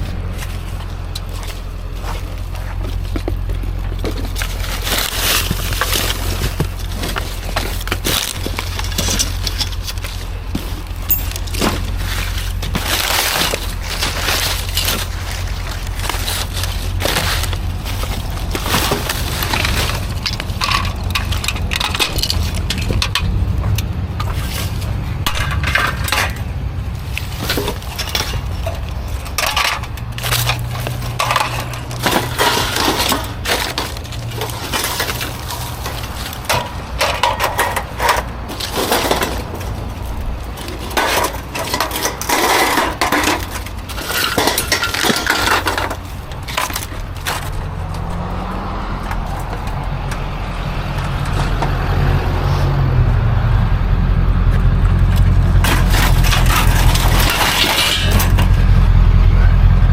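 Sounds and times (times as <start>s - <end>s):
scrap metal clanking: 0.0s - 52.8s, 54.5s - 59.6s.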